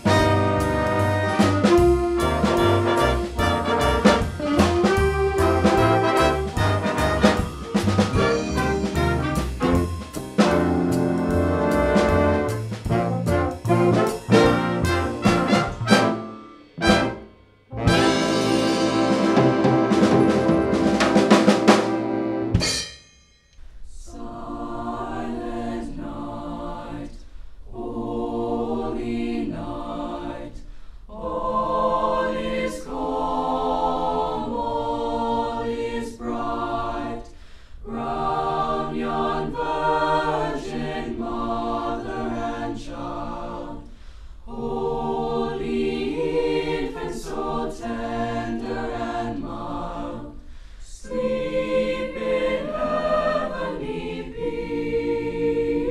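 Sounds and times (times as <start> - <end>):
choir singing slow piece: 0.0 - 22.5, 23.8 - 55.9.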